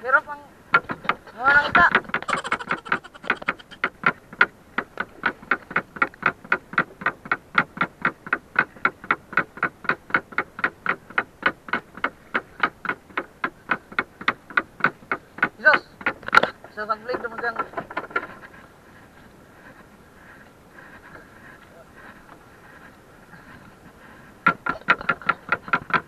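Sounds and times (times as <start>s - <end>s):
rapid even ticking: 0.7s - 26.0s.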